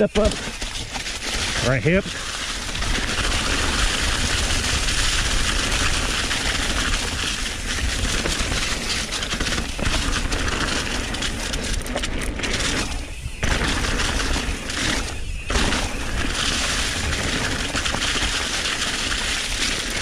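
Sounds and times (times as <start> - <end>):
tyres rolling over dirt: 0.0 - 20.0
wind rushing over microphone: 0.8 - 20.0.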